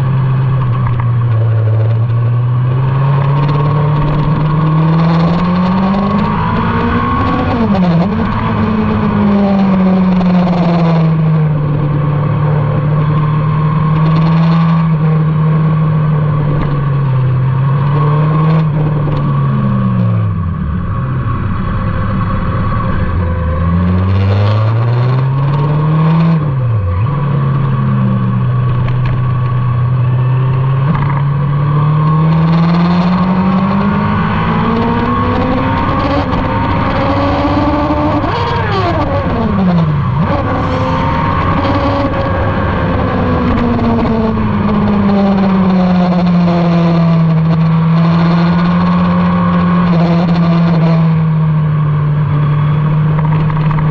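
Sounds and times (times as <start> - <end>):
motorcycle engine at speed: 0.0 - 53.9.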